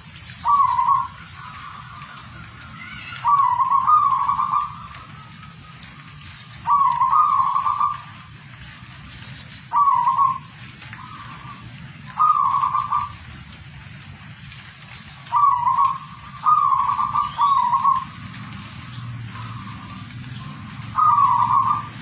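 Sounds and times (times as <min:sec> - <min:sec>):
dove cooing: 0:00.4 - 0:08.5, 0:09.6 - 0:13.2, 0:15.2 - 0:22.0.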